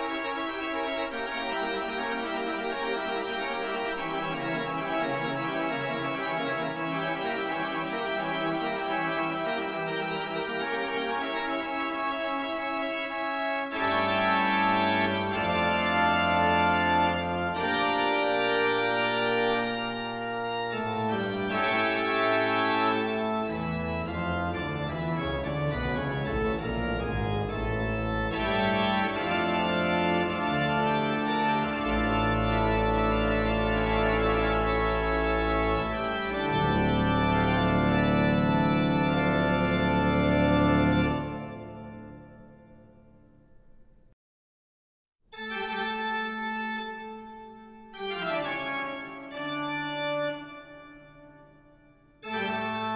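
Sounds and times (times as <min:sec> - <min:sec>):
organ-like keyboard chords: 0:00.0 - 0:43.8, 0:45.3 - 0:52.9.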